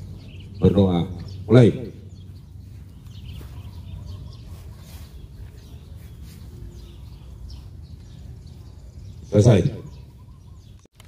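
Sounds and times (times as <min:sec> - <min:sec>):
faint bird chirps: 0:00.0 - 0:10.9.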